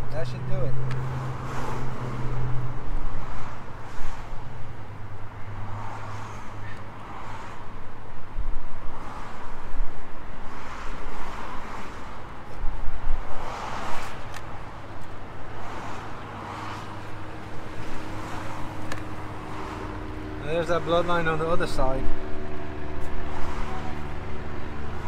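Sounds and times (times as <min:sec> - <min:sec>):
passing traffic rushing: 0:00.0 - 0:25.0
traffic hum: 0:00.0 - 0:25.0.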